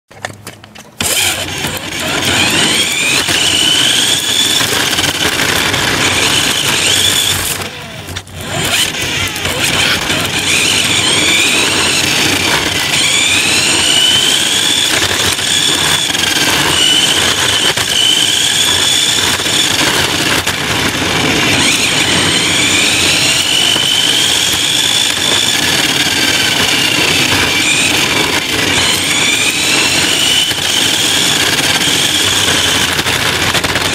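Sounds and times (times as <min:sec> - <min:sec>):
tyres rolling on pavement: 0:00.1 - 0:33.9
toy truck motor whining: 0:00.7 - 0:33.9.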